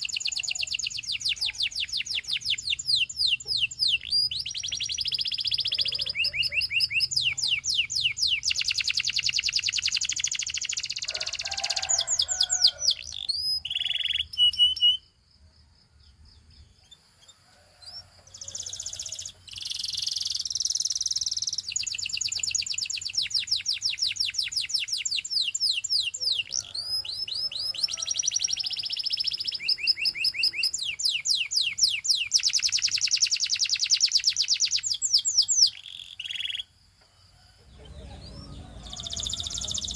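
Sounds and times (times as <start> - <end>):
canary singing fast trills: 0.0 - 15.2, 16.1 - 36.8, 37.4 - 39.9.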